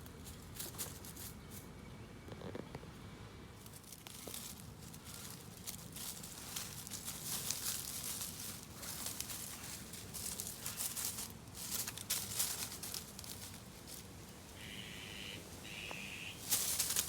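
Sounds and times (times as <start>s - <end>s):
rustling and crinkling: 0.0s - 1.7s, 3.6s - 14.6s, 15.4s - 17.0s.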